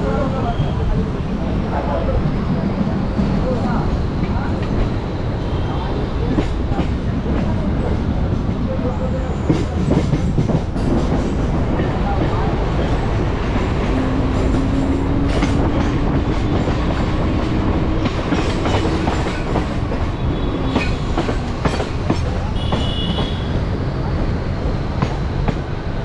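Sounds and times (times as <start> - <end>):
train rumbling from inside coach: 0.0 - 26.0.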